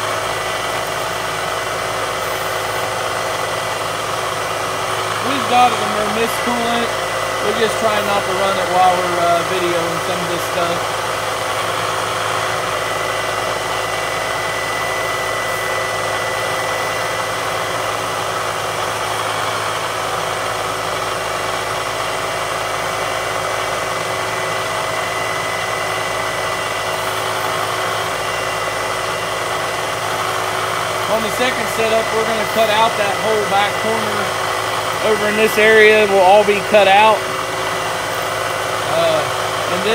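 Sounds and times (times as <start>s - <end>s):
milling machine drilling metal: 0.0s - 39.9s.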